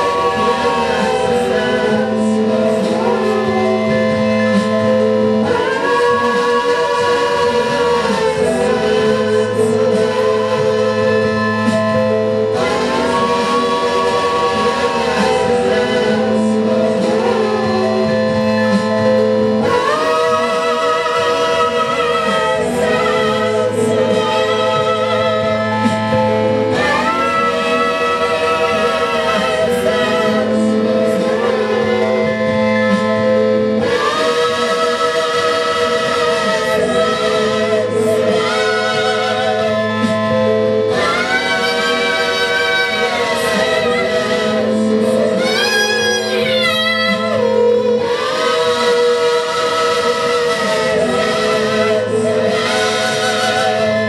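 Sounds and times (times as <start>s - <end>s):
sustained keyboard chords: 0.0s - 54.0s.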